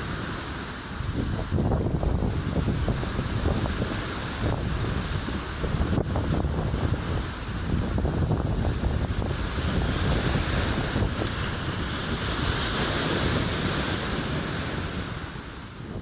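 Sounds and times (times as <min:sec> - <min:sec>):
ocean surf washing: 0:00.0 - 0:16.0
wind buffeting microphone: 0:00.0 - 0:16.0.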